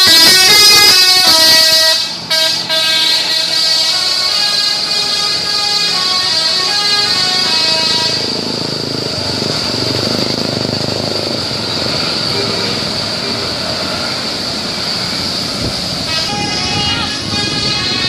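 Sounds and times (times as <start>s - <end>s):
engine rumble: 0.0s - 18.0s
multi-tone bus horn tune: 0.0s - 18.0s
road noise of passing traffic: 0.0s - 18.0s.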